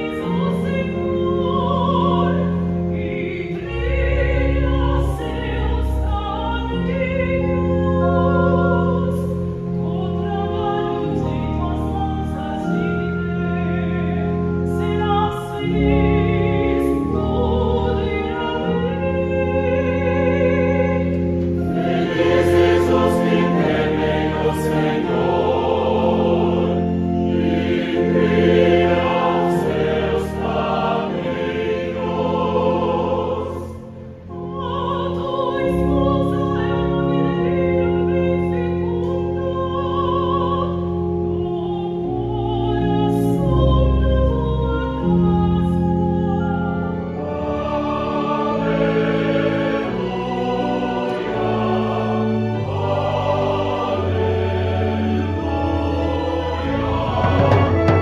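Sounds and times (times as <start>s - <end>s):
church choir singing: 0.0s - 58.0s
organ accompaniment: 0.0s - 58.0s.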